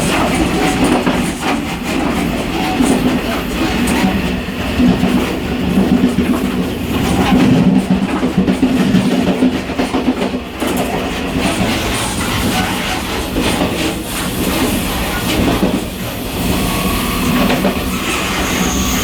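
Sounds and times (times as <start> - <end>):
train rumble: 0.0 - 19.0
train wheels clickety-clack: 0.0 - 19.0.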